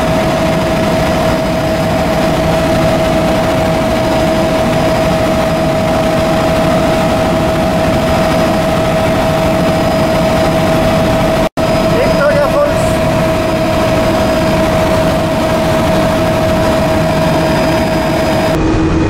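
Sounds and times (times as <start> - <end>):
constant whining tone: 0.0 - 19.0
helicopter engine and rotor drone: 0.0 - 19.0.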